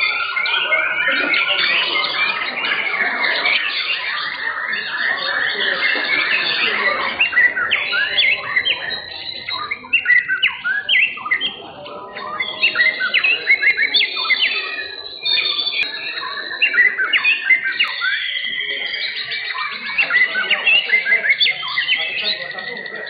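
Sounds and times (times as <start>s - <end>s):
birds singing: 0.0s - 23.0s.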